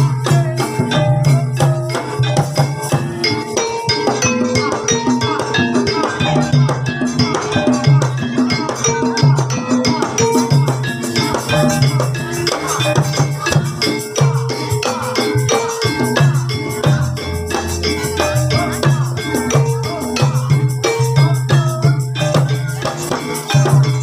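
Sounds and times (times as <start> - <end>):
drums: 0.0 - 24.0
gamelan music: 0.0 - 24.0
struck tuned percussion: 0.0 - 24.0.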